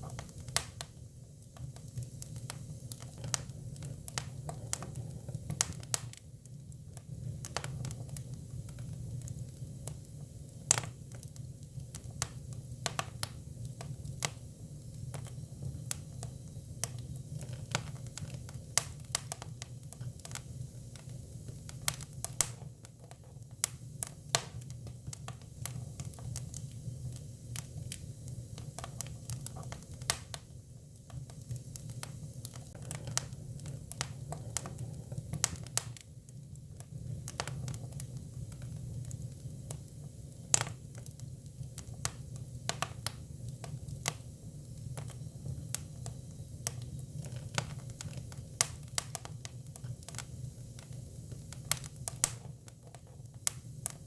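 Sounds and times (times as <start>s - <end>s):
firewood crackling and popping: 0.0s - 54.0s
low rumble of fire: 0.0s - 54.0s.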